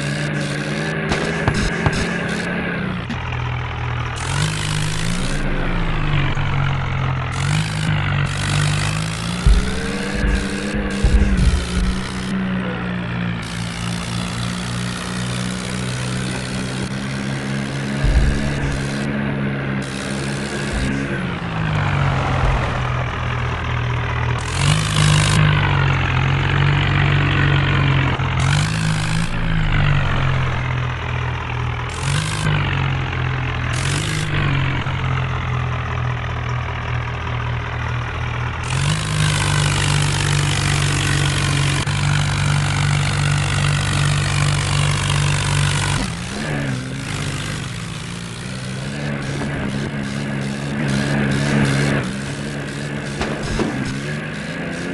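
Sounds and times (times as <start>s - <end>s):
tractor diesel engine revving: 0.0s - 54.9s.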